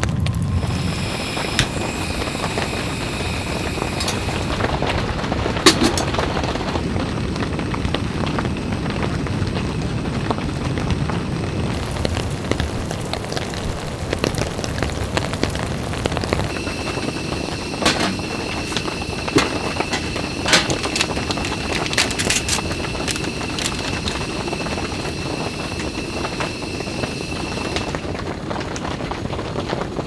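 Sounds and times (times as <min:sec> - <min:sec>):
rain on tent fabric: 0:00.0 - 0:30.0.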